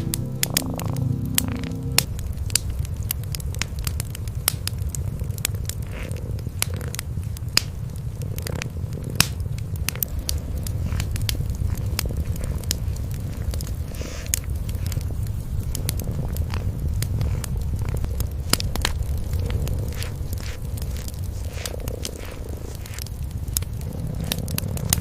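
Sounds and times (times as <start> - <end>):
cats purring: 0.0 - 25.0
wood fire crackling: 0.0 - 25.0.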